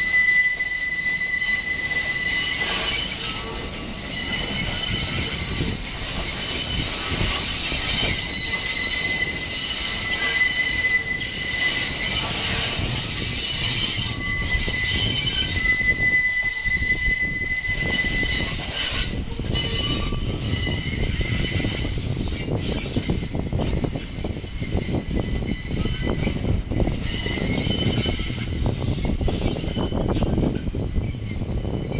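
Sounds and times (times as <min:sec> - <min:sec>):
train rumble: 0:00.0 - 0:31.9
train wheels squealing: 0:00.0 - 0:31.9.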